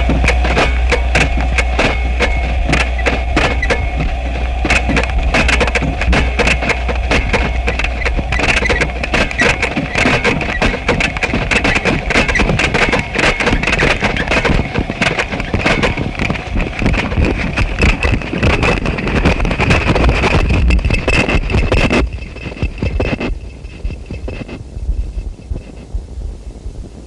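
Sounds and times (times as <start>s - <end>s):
harsh crackling noise music: 0.0s - 27.0s
high whine: 0.0s - 27.0s.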